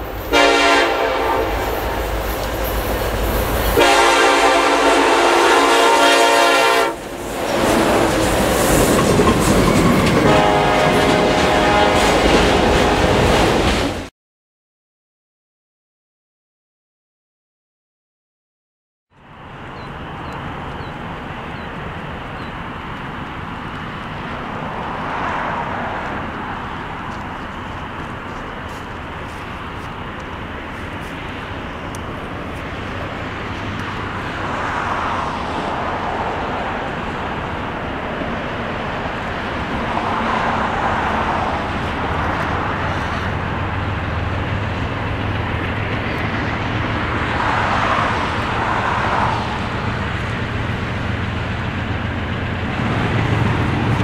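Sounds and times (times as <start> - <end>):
diesel locomotive engine rumble: 0.0 - 14.1, 19.1 - 54.0.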